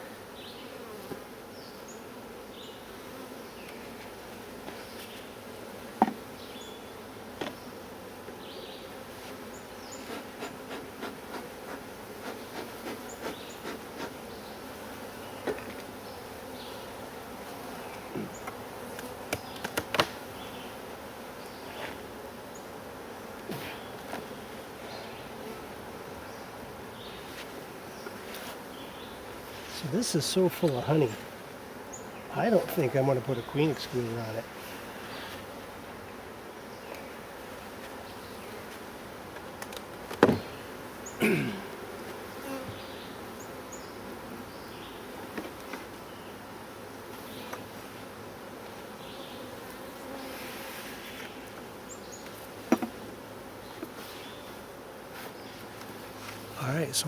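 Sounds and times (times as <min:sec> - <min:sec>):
honey bees buzzing: 0:00.0 - 0:57.0.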